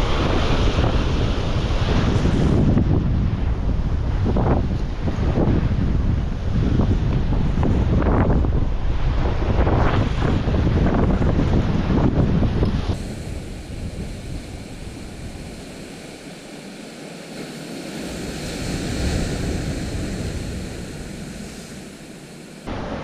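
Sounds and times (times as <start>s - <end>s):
surf washing onto shore: 0.0s - 23.0s
wind on microphone: 0.0s - 23.0s.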